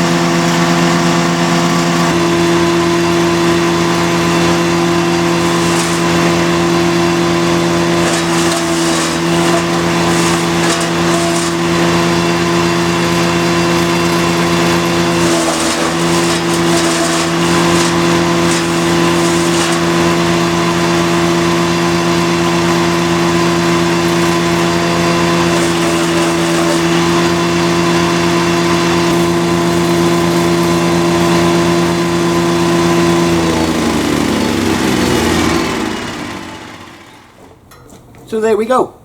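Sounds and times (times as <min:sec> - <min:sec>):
engine and rotor spinning down: 0:00.0 - 0:37.4
wood chipper engine running: 0:00.0 - 0:37.8.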